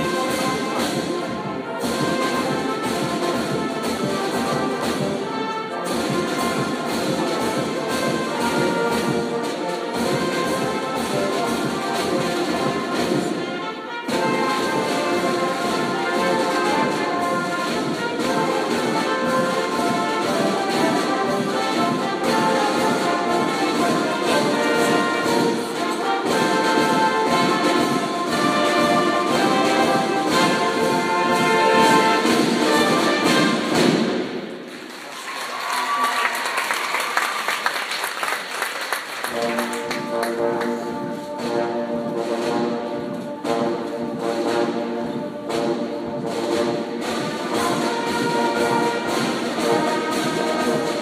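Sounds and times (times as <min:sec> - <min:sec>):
marching band playing: 0:00.0 - 0:51.0.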